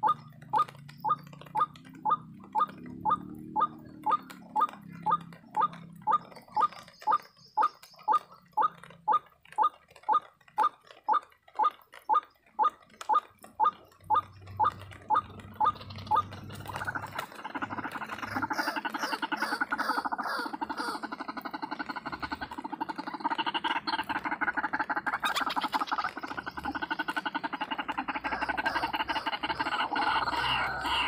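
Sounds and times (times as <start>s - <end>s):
waterhen calling: 0.0s - 31.0s.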